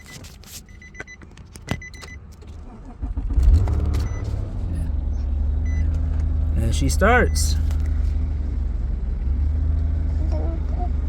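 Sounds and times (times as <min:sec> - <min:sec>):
car engine starting and idling: 0:01.5 - 0:11.0.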